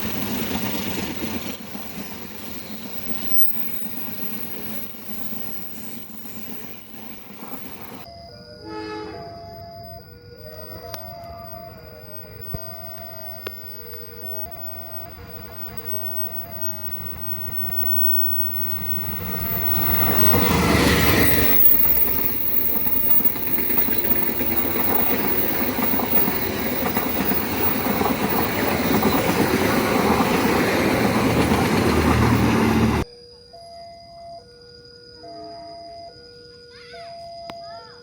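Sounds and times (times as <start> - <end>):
train passing close by: 0.0 - 9.6, 10.4 - 33.1.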